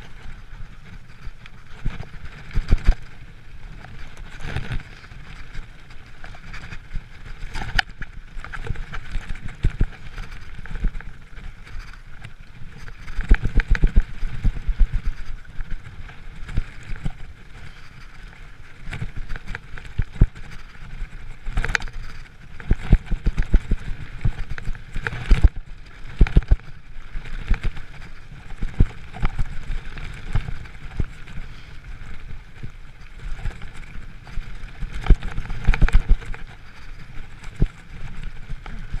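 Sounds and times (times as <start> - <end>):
bike knocking and rattling: 0.0 - 39.0
bike tyre rumble: 0.0 - 39.0.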